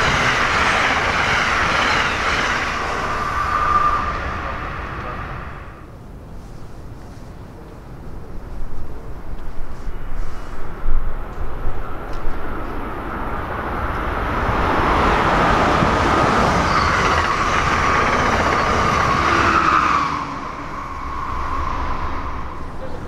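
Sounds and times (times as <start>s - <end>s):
train wheels rushing on rail: 0.0s - 7.4s, 8.2s - 23.0s.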